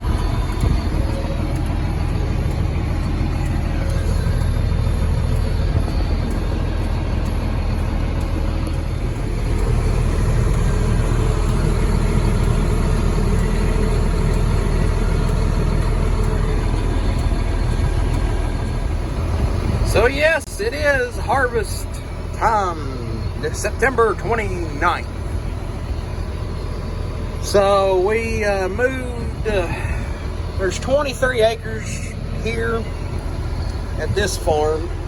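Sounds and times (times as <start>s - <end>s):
combine harvester engine rumble: 0.0s - 35.0s.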